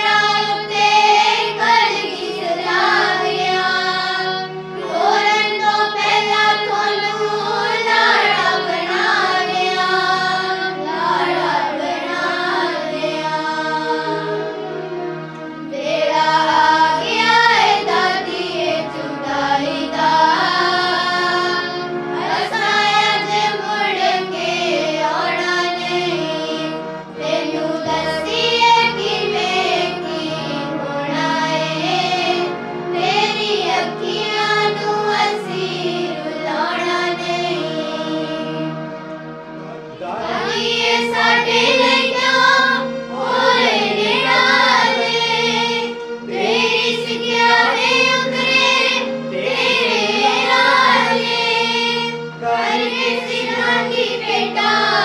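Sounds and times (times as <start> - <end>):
girls singing a devotional song: 0.0 - 39.1, 39.9 - 55.0
instrumental drone: 0.0 - 55.0.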